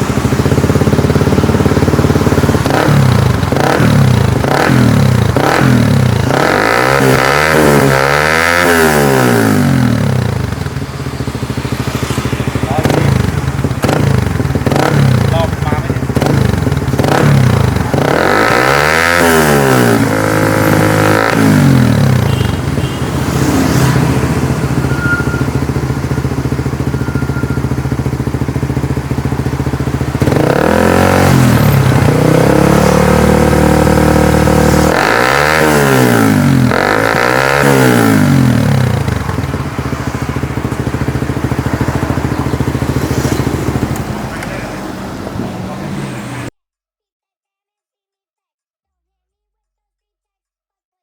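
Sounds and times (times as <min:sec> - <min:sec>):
motorcycle engine revving: 0:00.0 - 0:46.5.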